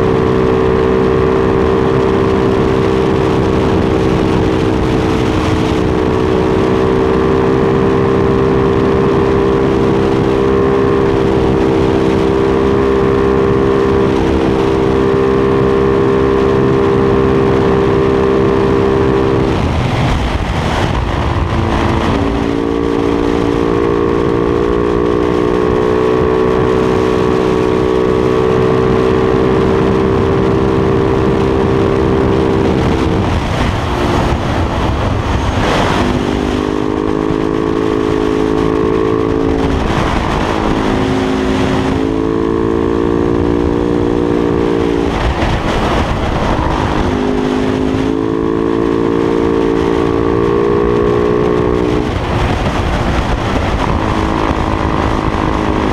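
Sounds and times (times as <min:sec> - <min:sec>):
motorcycle engine: 0:00.0 - 0:55.9
wind rush: 0:00.0 - 0:55.9.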